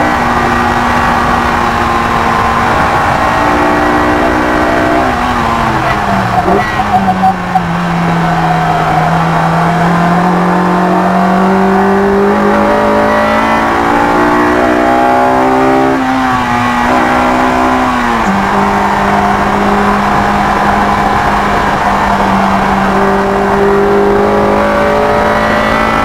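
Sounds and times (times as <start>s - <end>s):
car engine revving at full throttle: 0.0s - 26.0s.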